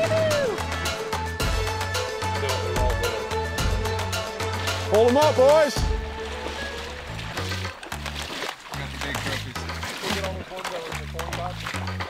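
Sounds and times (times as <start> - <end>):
background music with beat and bass: 0.0 - 12.0.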